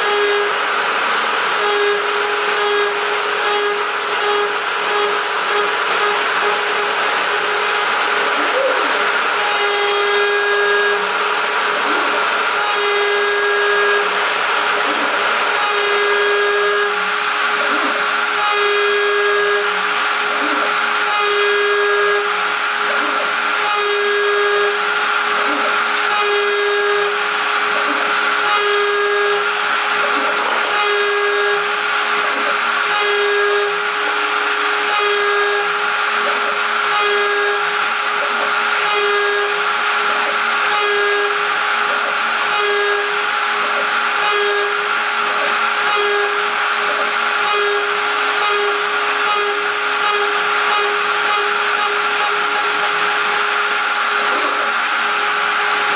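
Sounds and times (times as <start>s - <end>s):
router spindle milling metal: 0.0s - 55.9s.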